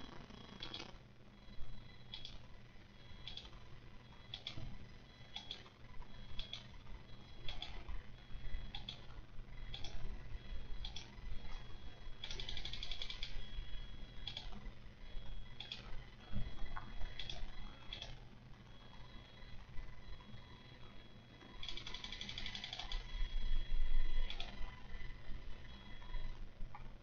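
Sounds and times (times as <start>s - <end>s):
faint mechanical clicking: 1.8s - 13.5s, 14.1s - 18.9s, 20.7s - 27.0s.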